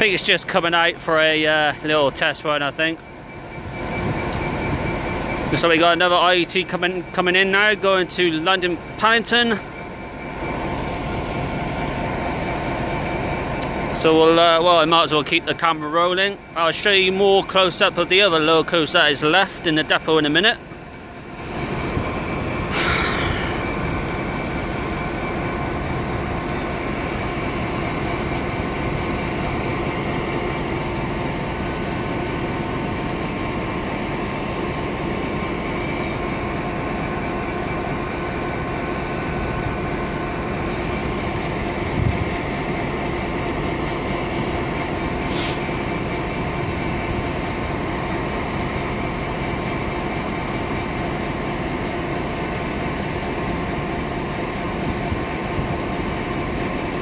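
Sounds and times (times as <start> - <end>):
high squeal: 0.0 - 57.0
train diesel engine drone: 0.0 - 57.0.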